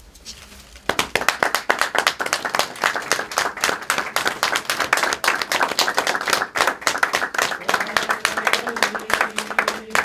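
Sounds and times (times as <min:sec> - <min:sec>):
group of people applauding: 0:00.9 - 0:10.0.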